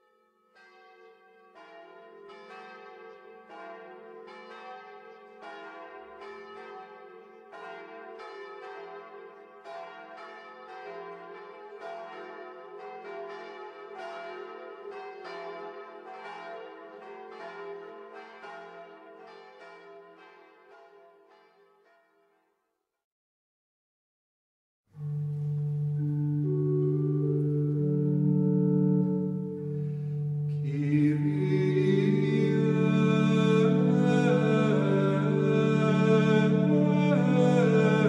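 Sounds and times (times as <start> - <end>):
church bells pealing: 0.0 - 22.1, 25.0 - 38.0.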